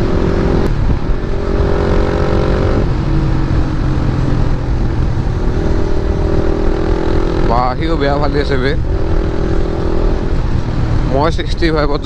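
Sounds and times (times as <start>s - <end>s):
motorcycle engine while riding: 0.0s - 12.0s
wind rumble on microphone: 0.0s - 12.0s.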